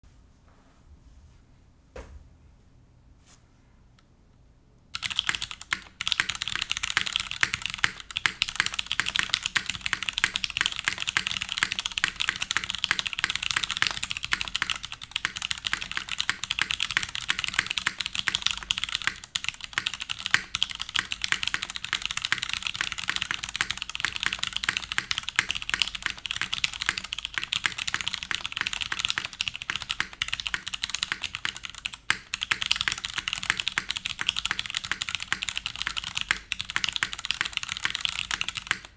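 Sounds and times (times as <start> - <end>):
fast typing on mechanical keyboard: 5.0 - 38.9.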